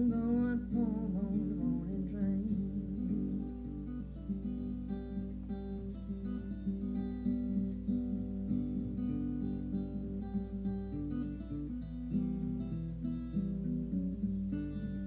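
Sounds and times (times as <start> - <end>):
acoustic blues guitar: 0.0 - 15.0.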